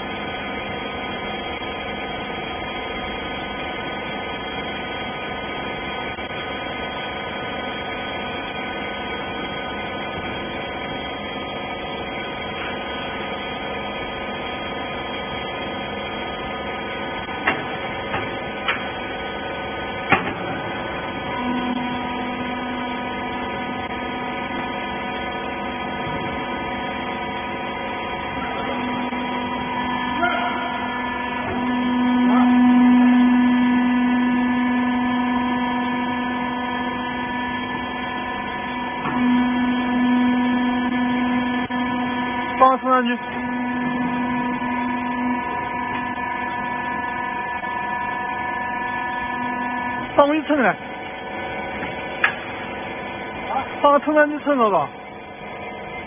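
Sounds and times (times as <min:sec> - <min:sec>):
hydraulic baler humming: 0:00.0 - 0:56.0.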